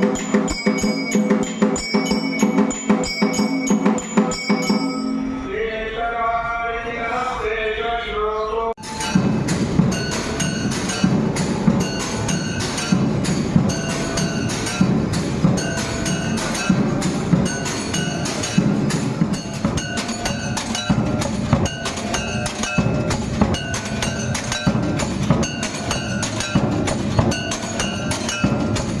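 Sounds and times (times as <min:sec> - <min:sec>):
dull drum beats: 0:00.0 - 0:05.2, 0:08.8 - 0:29.0
metal bells clanging: 0:00.0 - 0:05.6, 0:08.8 - 0:29.0.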